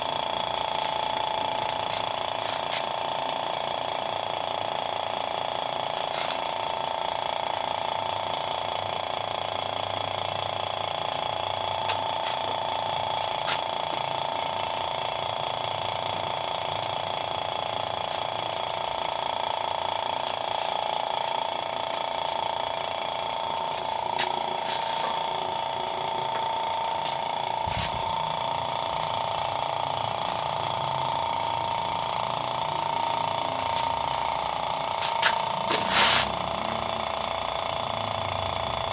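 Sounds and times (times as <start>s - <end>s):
vacuum pump whining: 0.0s - 38.9s.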